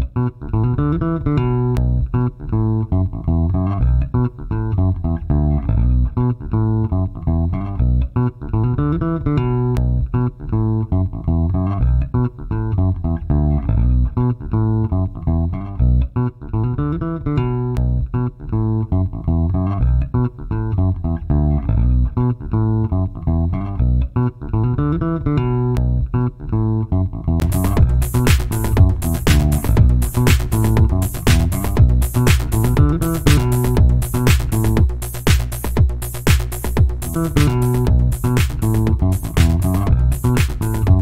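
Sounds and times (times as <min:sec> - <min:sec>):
plucked bass guitar riff: 0:00.0 - 0:41.0.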